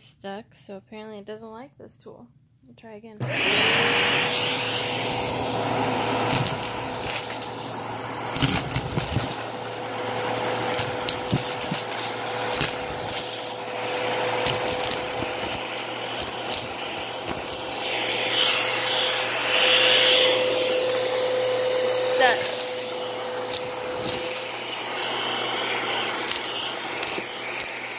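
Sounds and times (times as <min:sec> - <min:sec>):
vacuum cleaner motor whine: 0:03.2 - 0:27.9.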